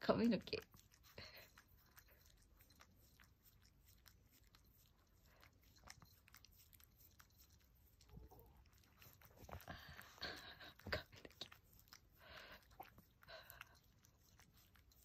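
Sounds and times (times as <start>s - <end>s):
dog licking wet clicks: 0.2s - 15.0s.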